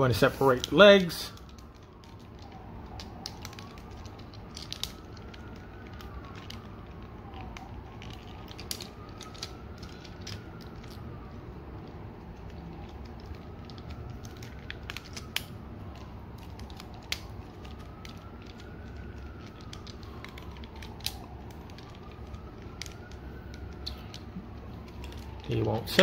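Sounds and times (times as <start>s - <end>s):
plastic toy clicks and creaks: 0.2s - 11.0s, 11.8s - 26.0s.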